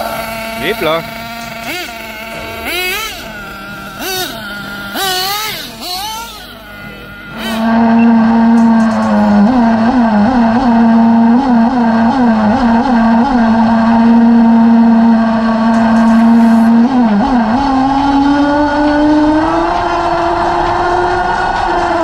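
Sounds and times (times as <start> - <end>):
model car engine revving: 0.0 - 22.0.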